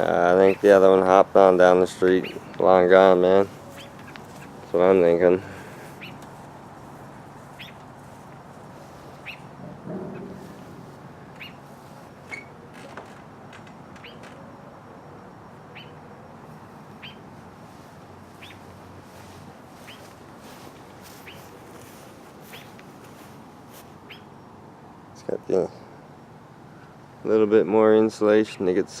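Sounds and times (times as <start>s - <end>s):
songbird chirping: 0.0s - 27.3s.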